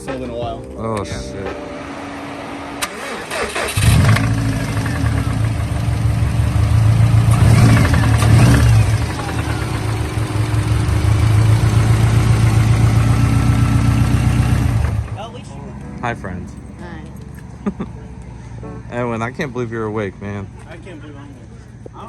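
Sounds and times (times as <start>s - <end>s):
car engine starting and running: 0.0s - 20.9s.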